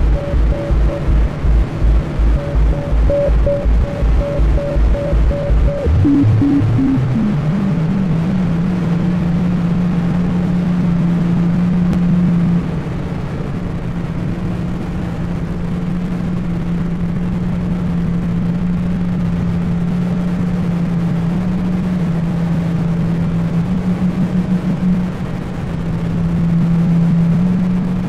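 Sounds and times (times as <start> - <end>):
loud electronic noise drone: 0.0 - 28.0.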